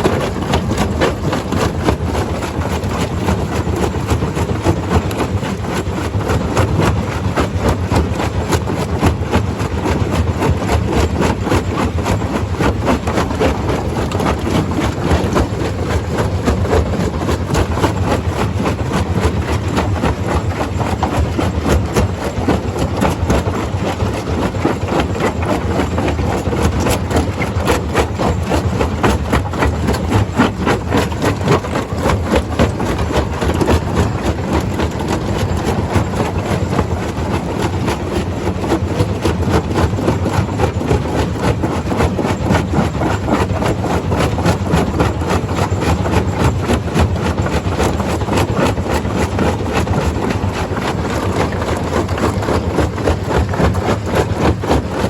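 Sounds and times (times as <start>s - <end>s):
stone crusher running: 0.0s - 55.0s.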